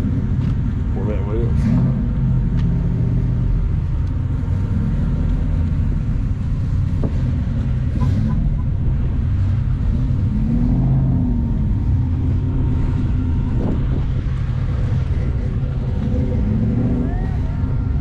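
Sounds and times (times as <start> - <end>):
car engines running: 0.0 - 18.0.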